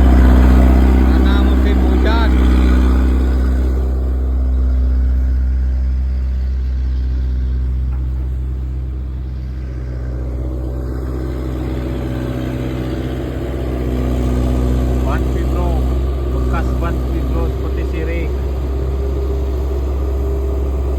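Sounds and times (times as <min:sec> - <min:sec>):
diesel engine deep drone: 0:00.0 - 0:20.9.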